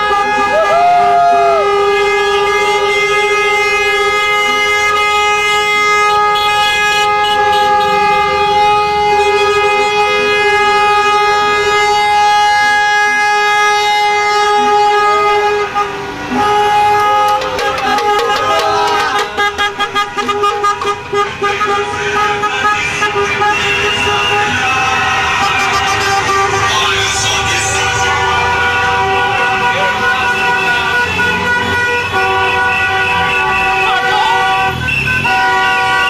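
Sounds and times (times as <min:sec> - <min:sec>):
car horns blaring: 0:00.0 - 0:36.0.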